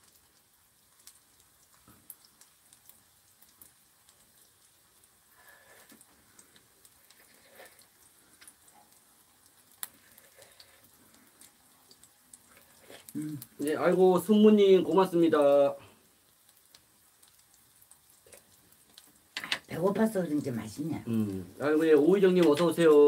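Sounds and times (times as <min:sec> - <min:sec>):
pancake frying in oil: 0:00.0 - 0:23.0.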